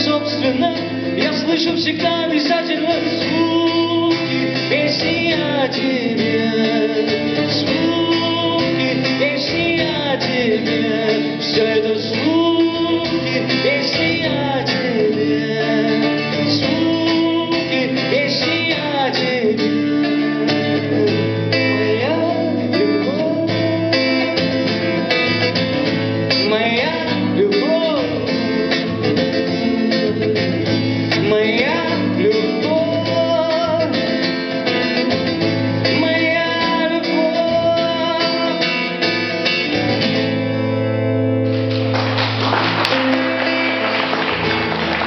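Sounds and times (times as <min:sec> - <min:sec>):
man singing: 0:00.0 - 0:40.2
strummed acoustic guitar: 0:00.0 - 0:45.0.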